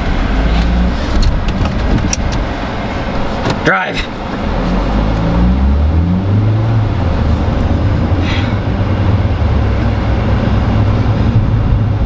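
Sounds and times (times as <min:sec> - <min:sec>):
car engine from inside cabin: 0:00.0 - 0:12.0
road rumble: 0:00.0 - 0:12.0.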